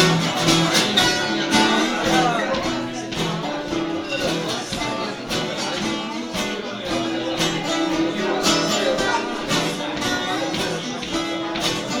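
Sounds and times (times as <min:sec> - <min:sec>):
live acoustic band music: 0:00.0 - 0:12.0
strummed guitar: 0:00.0 - 0:12.0.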